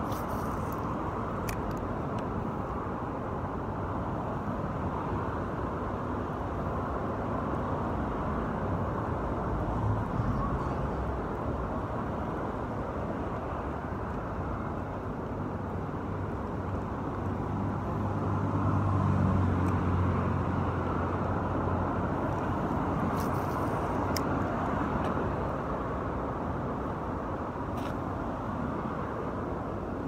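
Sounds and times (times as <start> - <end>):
heavy vehicle engine hum: 0.0 - 30.0
steady road traffic: 0.0 - 30.0.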